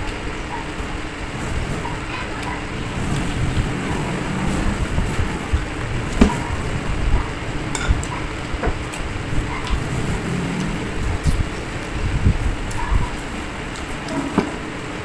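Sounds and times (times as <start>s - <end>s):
steady low rumble: 1.0s - 15.0s.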